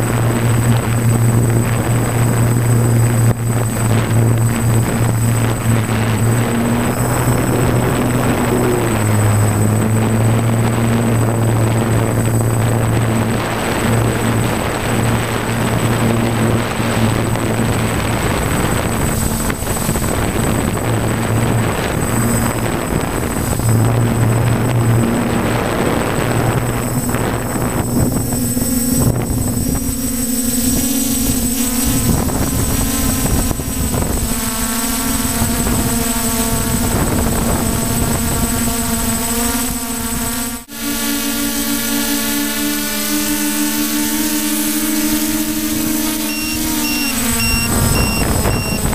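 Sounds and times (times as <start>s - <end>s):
drone motors humming: 0.0s - 48.9s
thin high whine: 0.0s - 48.9s.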